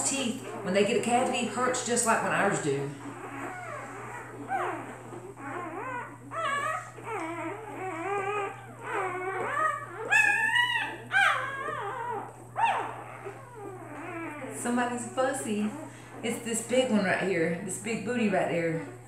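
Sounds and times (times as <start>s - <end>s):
puppies whining and squealing: 0.0s - 19.0s.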